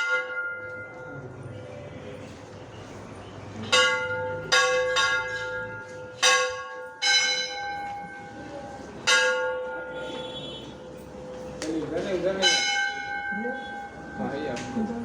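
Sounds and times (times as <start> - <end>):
temple bells clanging: 0.0 - 1.2, 3.6 - 15.0.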